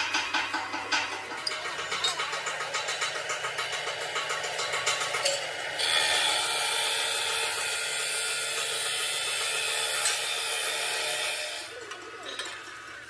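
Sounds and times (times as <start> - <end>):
chop saw grinding through steel: 1.2 - 11.8.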